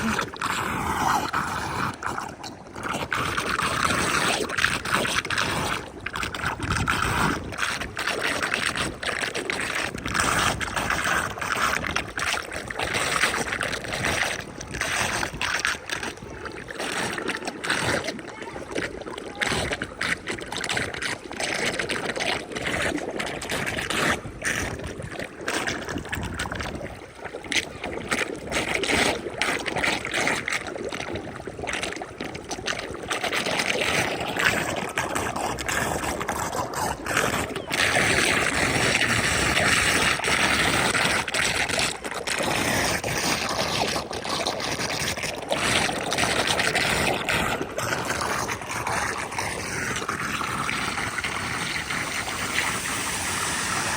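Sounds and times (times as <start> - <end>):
water draining into street drain: 0.0 - 53.9.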